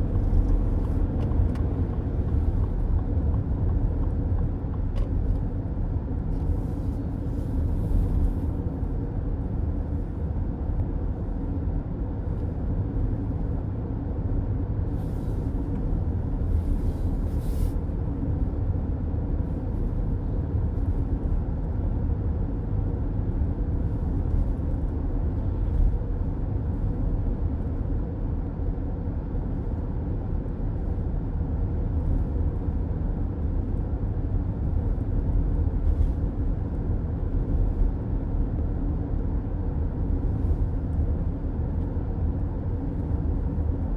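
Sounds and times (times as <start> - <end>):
car road and engine rumble: 0.0 - 43.9.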